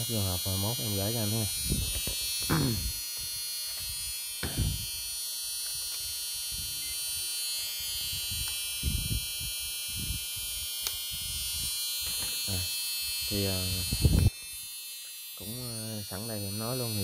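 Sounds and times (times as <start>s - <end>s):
high-pitched electrical buzz: 0.0s - 17.0s.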